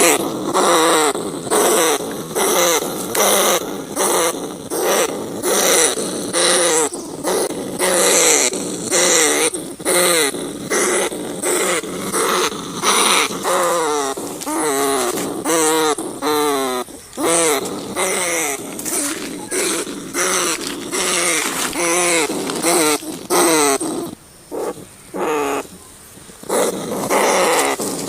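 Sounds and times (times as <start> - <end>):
rat squealing: 0.0 - 25.7, 26.4 - 28.0.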